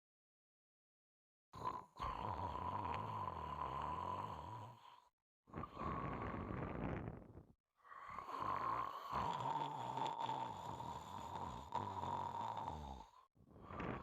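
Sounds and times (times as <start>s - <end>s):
pet snoring with whistle: 1.6s - 14.0s.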